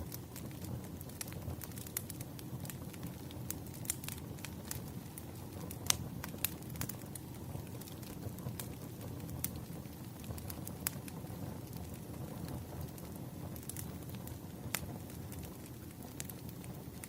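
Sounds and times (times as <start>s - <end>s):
campfire flames rumbling: 0.0s - 17.0s
fire crackles and pops: 0.0s - 17.0s.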